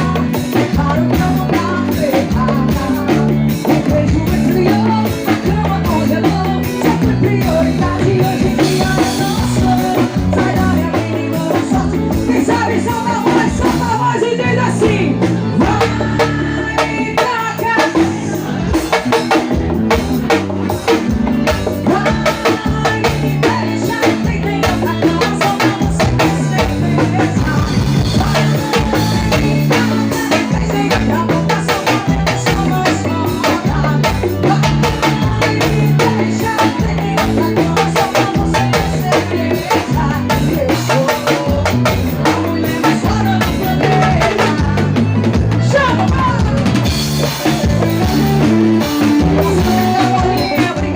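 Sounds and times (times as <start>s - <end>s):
bass: 0.0s - 50.9s
drum kit beat: 0.0s - 50.9s
live band playing: 0.0s - 50.9s.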